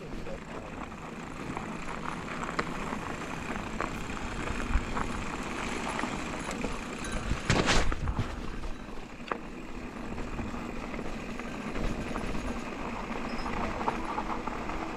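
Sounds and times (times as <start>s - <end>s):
bike rattling: 0.0s - 14.9s
bike tyres crunching over stones: 0.0s - 14.9s.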